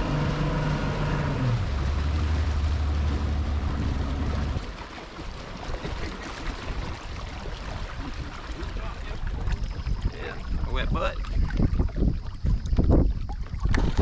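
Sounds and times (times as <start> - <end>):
outboard motor throttling back: 0.0 - 14.0
water sloshing around hull: 0.0 - 14.0.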